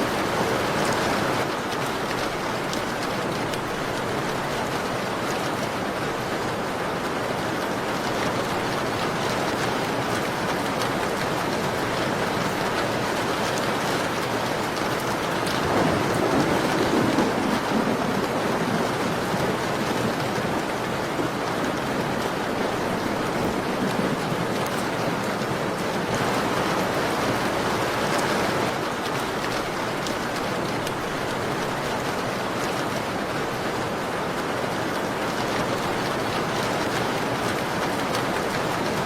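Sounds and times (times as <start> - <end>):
rain on a window: 0.0 - 39.0.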